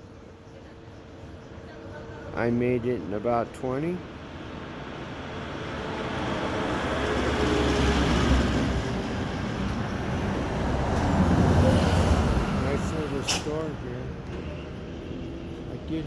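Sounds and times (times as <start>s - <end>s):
road vehicle passing: 1.7s - 16.0s.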